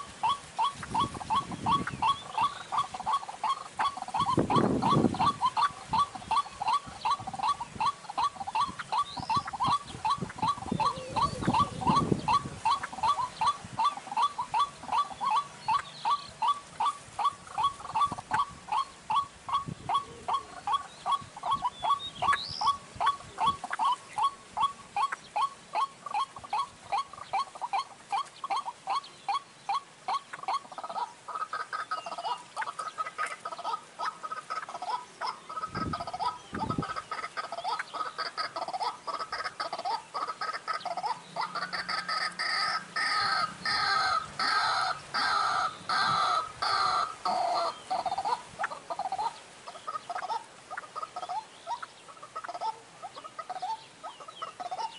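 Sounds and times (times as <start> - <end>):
waterhen calling: 0.0 - 54.9.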